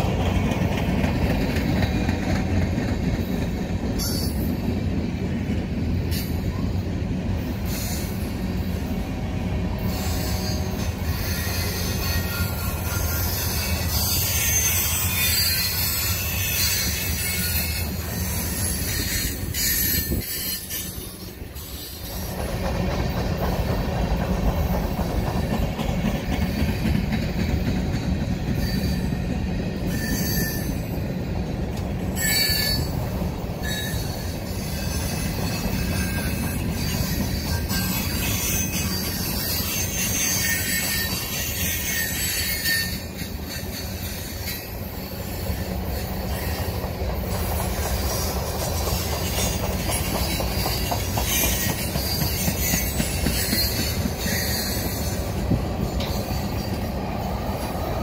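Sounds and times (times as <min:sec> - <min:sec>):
train wheels rumbling on track: 0:00.0 - 0:58.0
wheels squealing: 0:09.8 - 0:31.2, 0:32.1 - 0:58.0.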